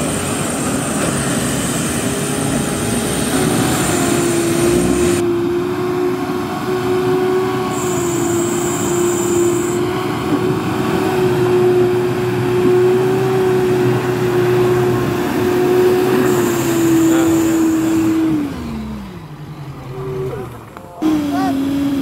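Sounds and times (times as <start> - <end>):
truck engine at high revs: 0.0 - 22.0.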